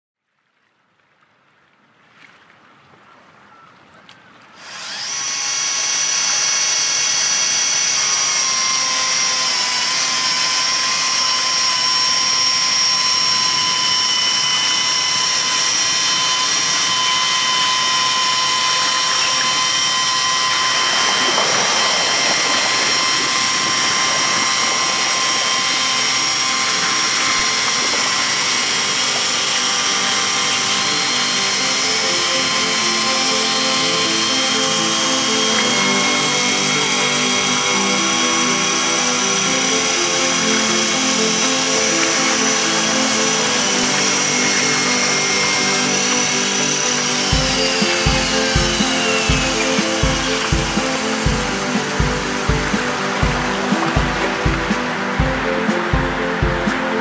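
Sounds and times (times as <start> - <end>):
chainsaw mill whining: 4.6 - 57.0.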